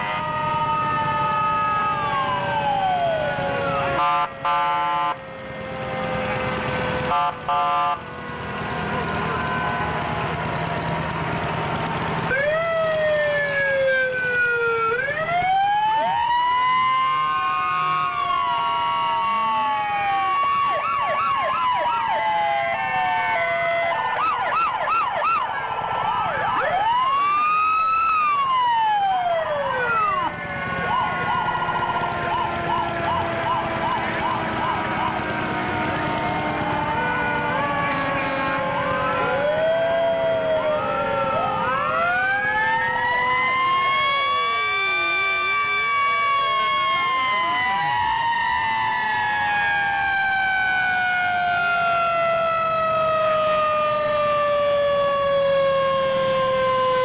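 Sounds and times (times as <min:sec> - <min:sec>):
fire truck sirens wailing: 0:00.0 - 0:57.0
sirens yelping: 0:00.0 - 0:57.0.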